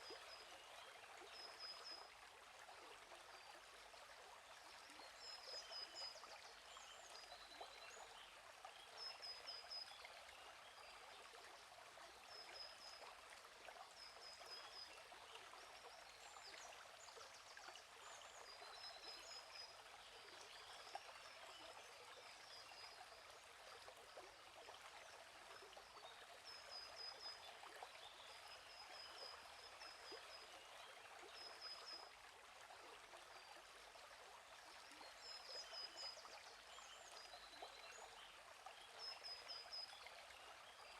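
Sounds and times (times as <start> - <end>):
gently flowing stream: 0.0 - 40.9.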